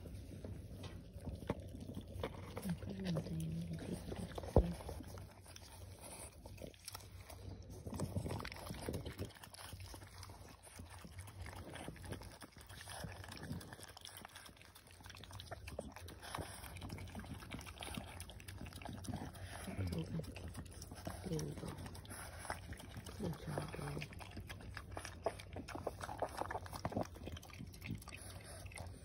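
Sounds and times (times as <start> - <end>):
dog lapping liquid: 0.0 - 29.0.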